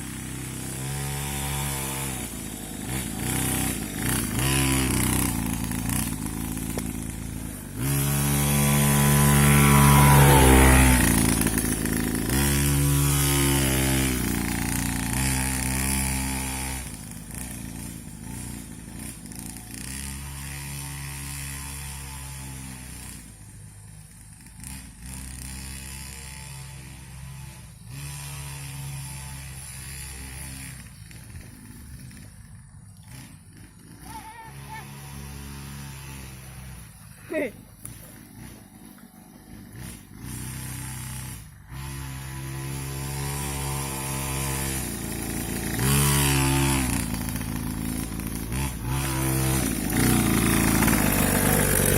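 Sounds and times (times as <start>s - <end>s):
small two-stroke engine revving: 0.0s - 51.9s.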